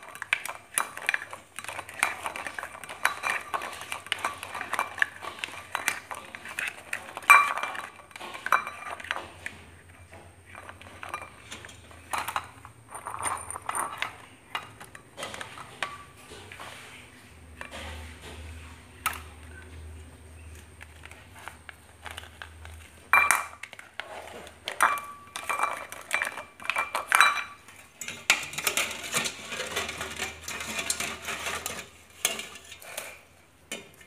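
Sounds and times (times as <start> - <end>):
spoon and eggs clinking in bowl: 0.0 - 16.4, 23.2 - 34.0.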